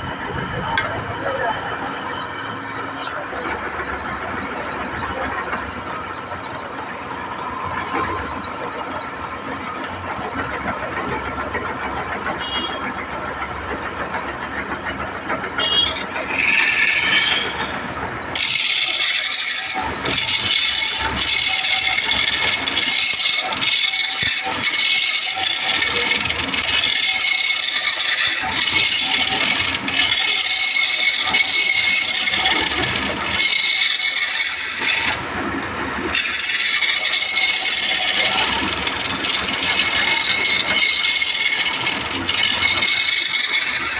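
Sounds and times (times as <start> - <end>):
steady machine noise: 0.0 - 43.9
high-pitched rasping rattle: 0.1 - 43.9.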